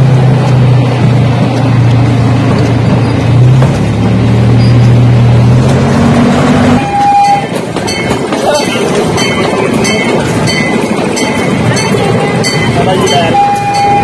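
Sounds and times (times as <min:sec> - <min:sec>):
mini train engine droning: 0:00.0 - 0:14.0.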